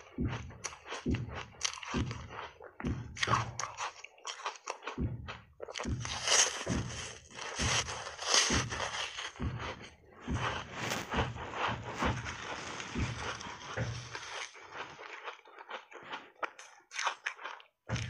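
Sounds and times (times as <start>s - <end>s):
crunching and chewing ice bar: 0.0s - 18.0s.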